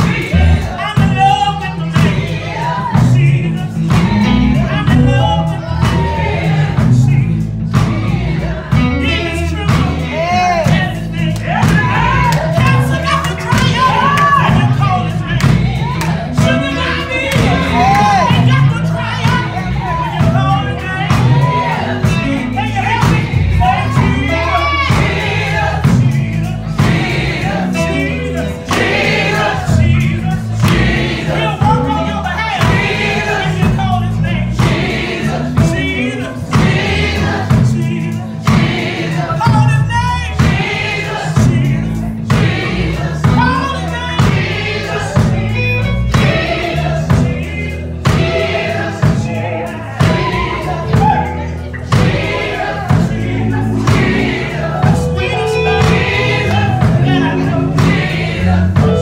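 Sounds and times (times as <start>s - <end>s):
band with beat and bass: 0.0s - 59.0s
women singing gospel in harmony: 0.0s - 59.0s.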